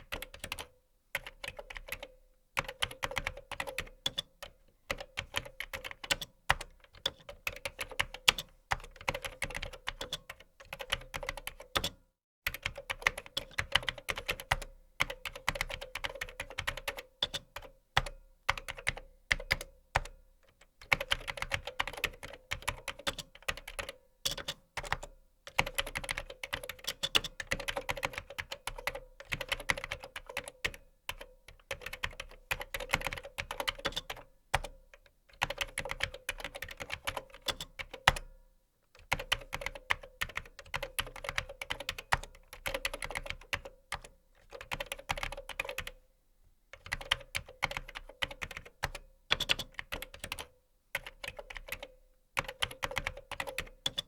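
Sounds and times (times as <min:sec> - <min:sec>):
typing on a keyboard: 0:00.0 - 0:38.3, 0:39.0 - 0:46.0, 0:46.8 - 0:54.0.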